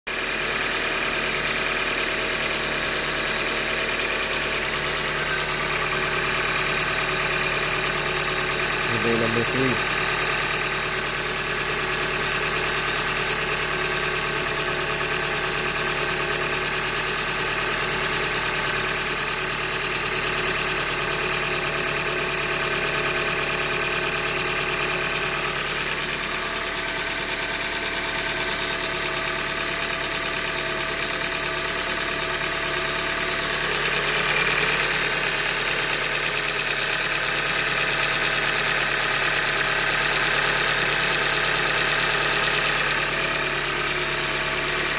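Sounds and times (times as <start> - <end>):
car engine idling with knock: 0.1 - 44.9.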